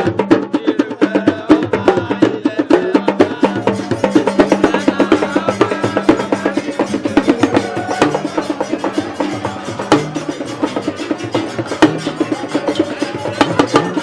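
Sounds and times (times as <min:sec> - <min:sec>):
fast drum percussion: 0:00.0 - 0:14.0.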